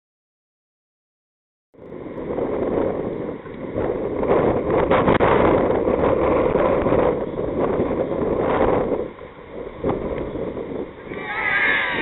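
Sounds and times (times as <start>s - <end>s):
wind buffeting microphone: 1.8s - 12.0s.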